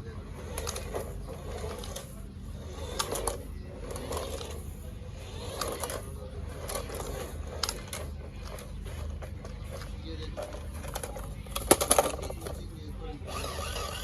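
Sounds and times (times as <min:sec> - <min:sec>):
clicks and scrapes from wheels: 0:00.0 - 0:14.0
toy car motor and gearbox: 0:00.0 - 0:14.0.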